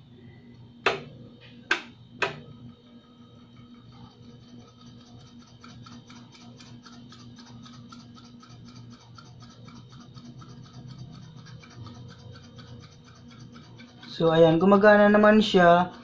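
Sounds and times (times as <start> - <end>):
electric pump humming and ticking: 0.0 - 16.0.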